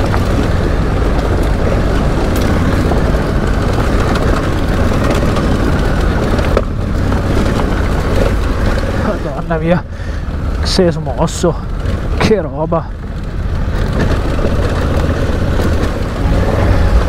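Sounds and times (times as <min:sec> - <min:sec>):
motorcycle engine running: 0:00.0 - 0:09.4, 0:11.6 - 0:17.0.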